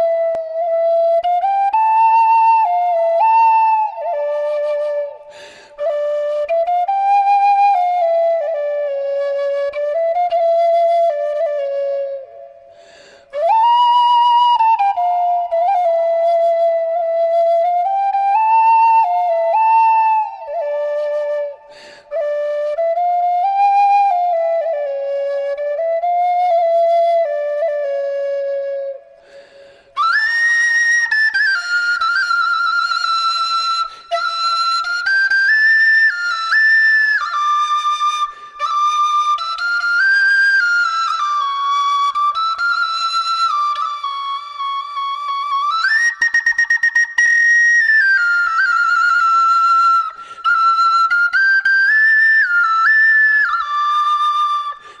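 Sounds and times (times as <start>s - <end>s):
flute-like melody: 0.0s - 55.0s.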